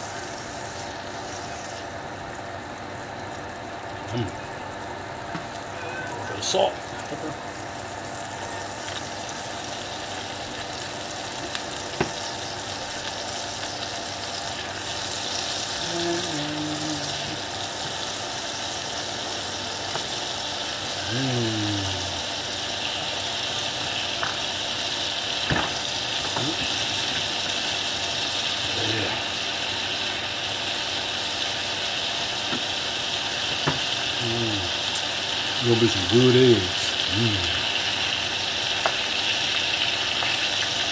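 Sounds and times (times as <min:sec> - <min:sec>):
butter sizzling in a frying pan: 0:00.0 - 0:40.9.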